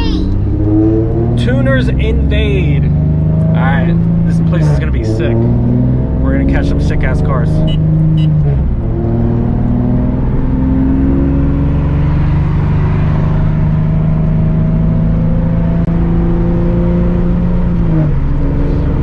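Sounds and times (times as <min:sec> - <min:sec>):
car engine droning under load: 0:00.0 - 0:19.0.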